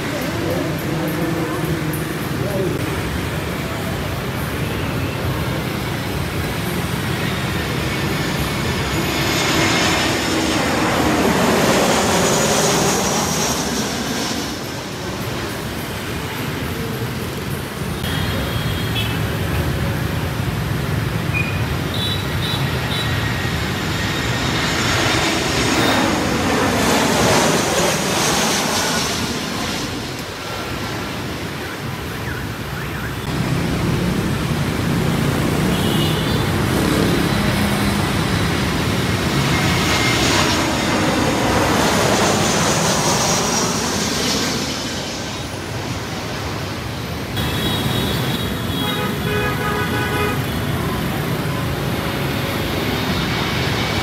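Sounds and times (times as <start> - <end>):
jet airliner passing overhead: 0.0 - 54.0
street traffic rumble: 0.0 - 54.0.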